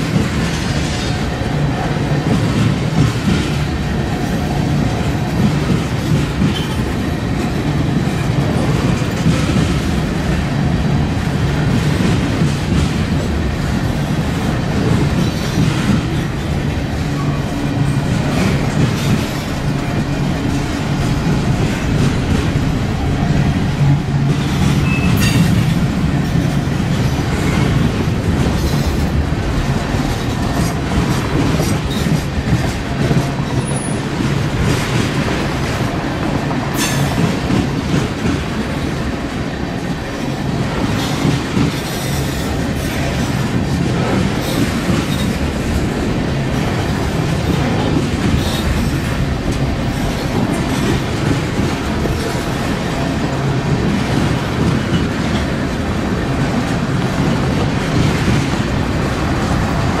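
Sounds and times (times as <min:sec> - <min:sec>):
freight train rumbling past: 0:00.0 - 1:00.0
steel wheels clattering over rail joints: 0:00.0 - 1:00.0.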